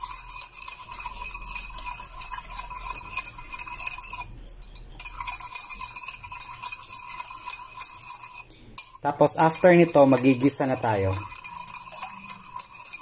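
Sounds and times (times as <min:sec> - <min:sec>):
metal spoon stirring in bowl: 0:00.0 - 0:13.0.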